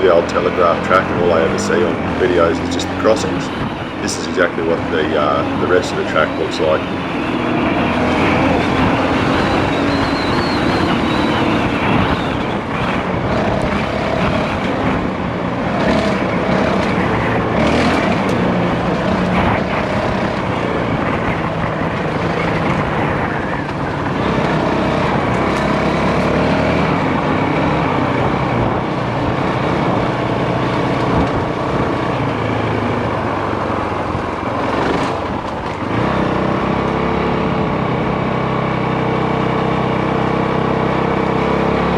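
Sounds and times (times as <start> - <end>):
rushing noise: 0.0 - 37.4
dirt bike engine revving: 0.0 - 41.9.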